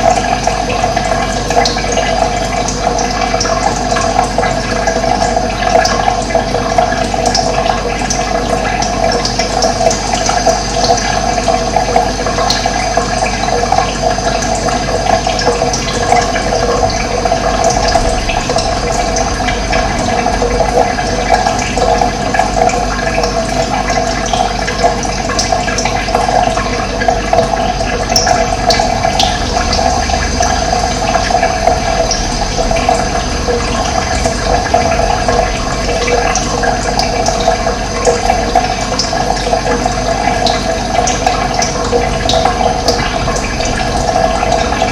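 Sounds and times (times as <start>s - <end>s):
running water rushing: 0.0s - 44.9s.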